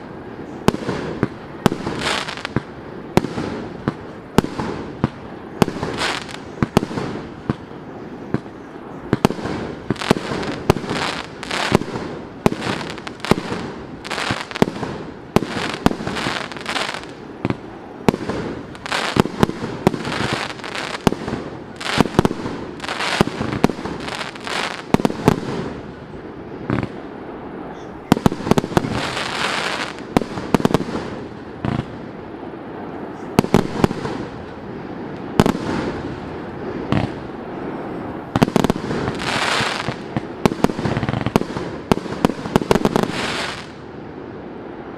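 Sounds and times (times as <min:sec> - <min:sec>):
fireworks bangs: 0:00.0 - 0:32.2, 0:33.1 - 0:43.9.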